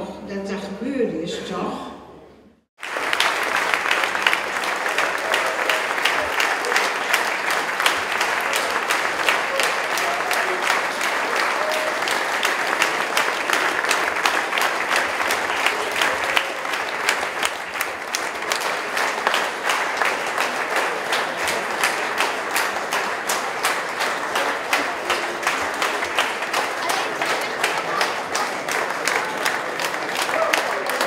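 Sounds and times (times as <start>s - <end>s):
audience applauding: 2.8s - 31.0s.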